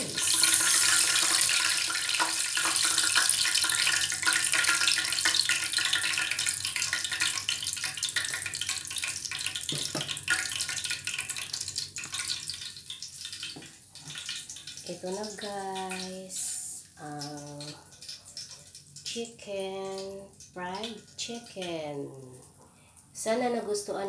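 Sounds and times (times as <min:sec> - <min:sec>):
oil sizzling in a frying pan: 0:00.0 - 0:21.8.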